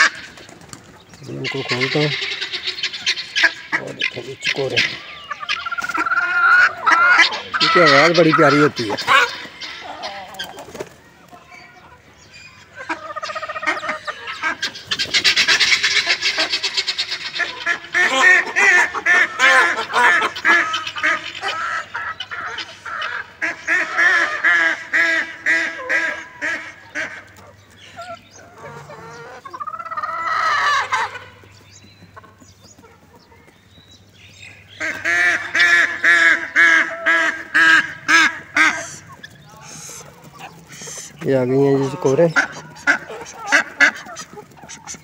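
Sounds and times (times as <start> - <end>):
fowl harsh repeated calls: 0.0 - 31.5, 34.4 - 45.0.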